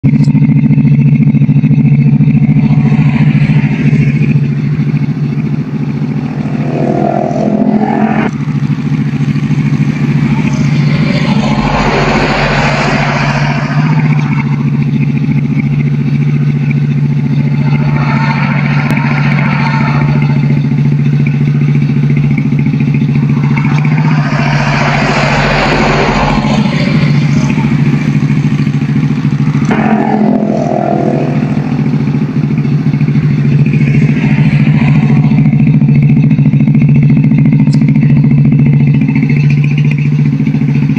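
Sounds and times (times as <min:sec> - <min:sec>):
motorcycle engine revving: 0:00.0 - 0:40.9
small motorcycle engine idling: 0:00.0 - 0:40.9.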